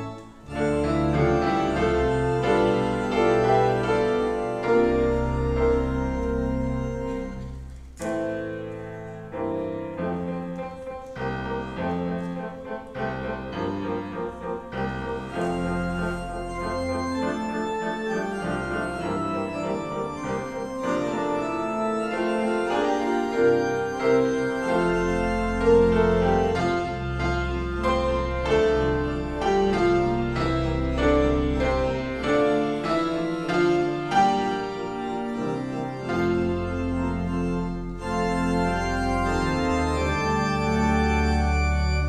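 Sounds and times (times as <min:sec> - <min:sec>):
grand piano playing: 0:00.0 - 0:42.0.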